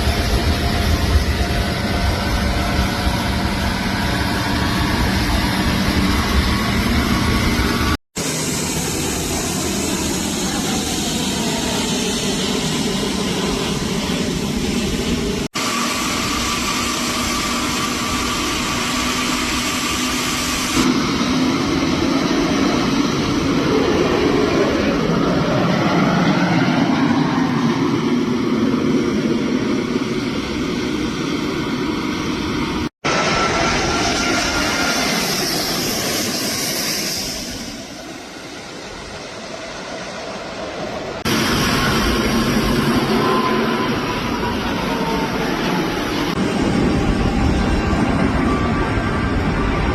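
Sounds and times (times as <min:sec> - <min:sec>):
propeller aircraft engine: 0:00.0 - 0:49.9.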